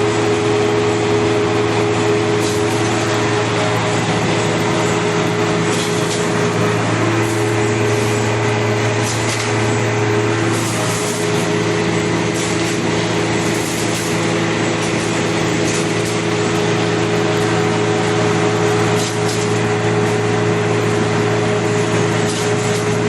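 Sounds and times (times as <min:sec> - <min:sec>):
machine mechanical hum and whirr: 0:00.0 - 0:23.0.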